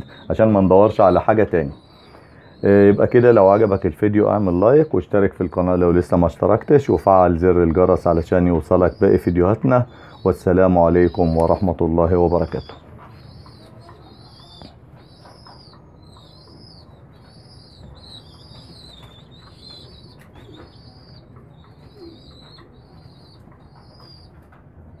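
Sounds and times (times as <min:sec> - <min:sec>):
bird chirping: 0:00.0 - 0:25.0.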